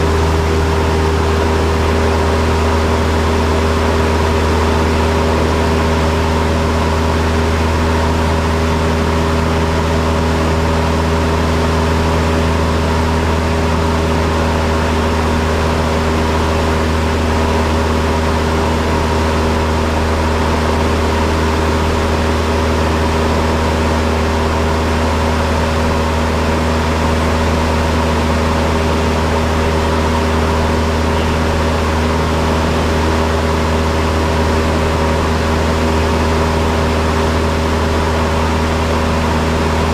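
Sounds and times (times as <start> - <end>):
airplane engine drone in cabin: 0.0 - 39.9.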